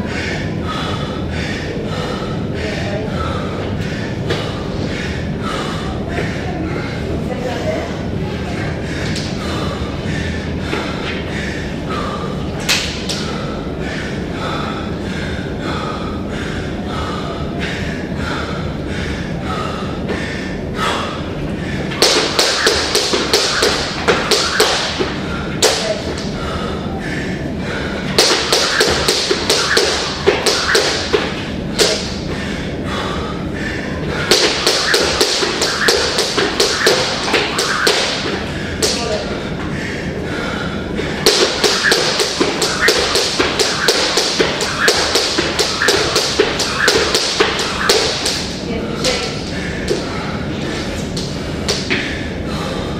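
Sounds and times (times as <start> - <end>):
steady background noise: 0.0 - 52.9.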